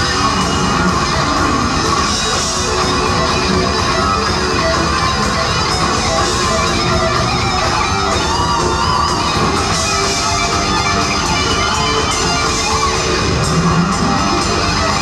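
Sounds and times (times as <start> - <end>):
bent electric guitar lead notes: 0.0 - 15.0
hard rock band playing live: 0.0 - 15.0.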